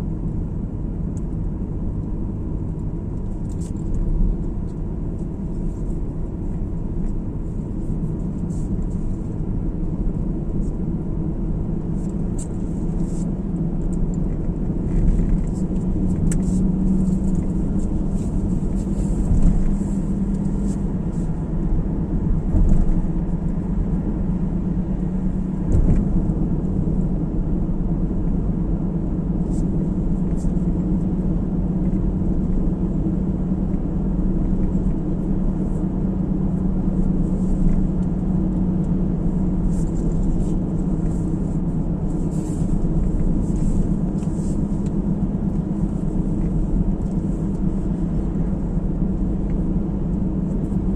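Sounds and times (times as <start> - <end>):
car engine and tyre noise: 0.0 - 50.9
steady hum: 3.4 - 50.9.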